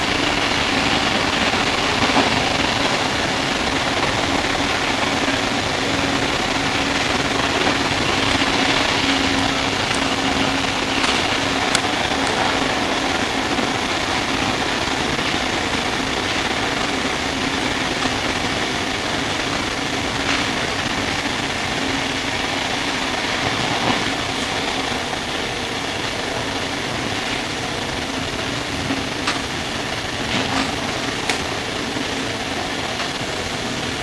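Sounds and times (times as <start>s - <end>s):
train carriage running noise: 0.0s - 34.0s.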